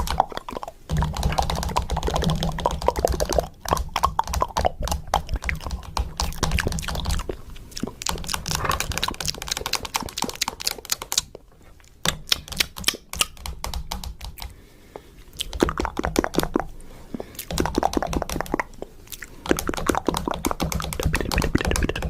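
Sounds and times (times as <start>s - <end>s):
rapid clicking and tapping: 0.9s - 11.3s, 12.0s - 14.6s, 15.5s - 16.7s, 17.4s - 18.7s, 19.4s - 22.0s.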